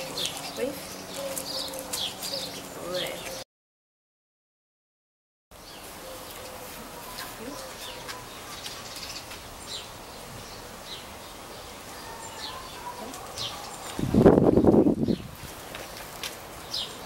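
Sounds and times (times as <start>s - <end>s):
small birds chirping: 0.0s - 3.4s, 5.6s - 17.0s.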